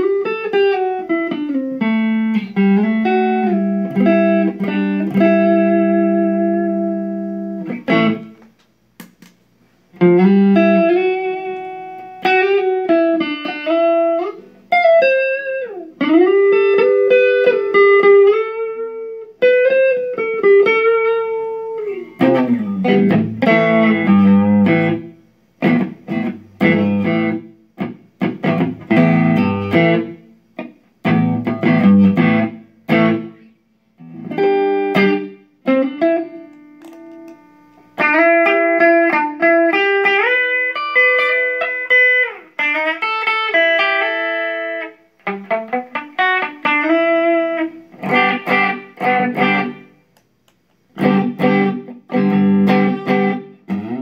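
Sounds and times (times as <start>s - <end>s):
electric guitar playing: 0.0s - 9.2s, 10.0s - 50.2s, 50.8s - 54.0s.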